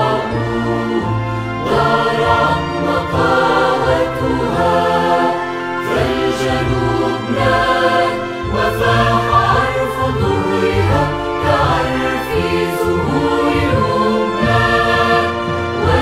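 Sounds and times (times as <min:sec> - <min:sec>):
mixed choir singing a hymn: 0:00.0 - 0:16.0.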